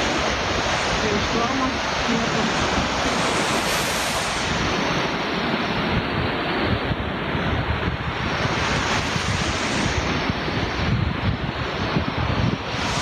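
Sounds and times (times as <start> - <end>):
sea waves breaking on shore: 0.0 - 13.0
wind buffeting microphone: 0.0 - 13.0.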